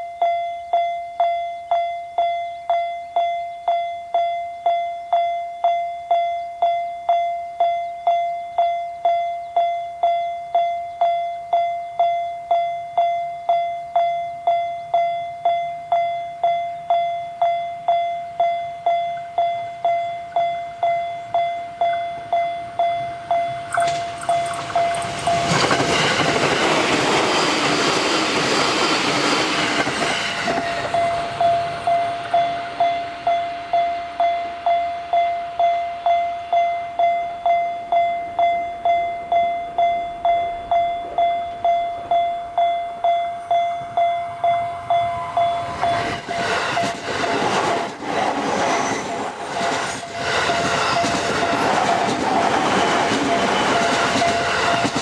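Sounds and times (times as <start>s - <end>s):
level crossing warning bell: 0.0s - 55.0s
train passing with wheel noise: 9.0s - 55.0s.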